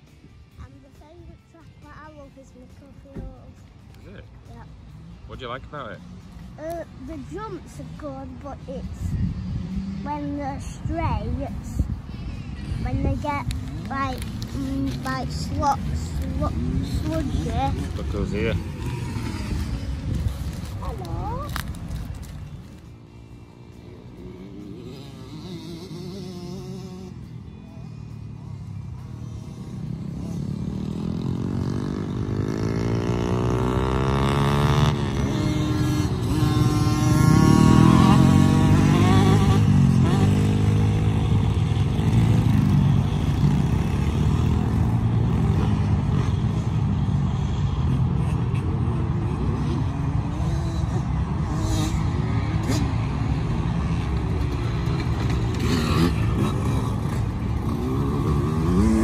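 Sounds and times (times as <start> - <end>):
small motocross bikes revving: 0.0 - 59.0.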